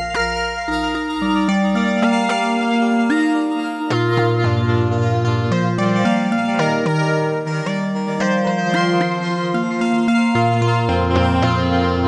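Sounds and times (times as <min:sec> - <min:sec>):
modular synthesizer notes: 0:00.0 - 0:12.0.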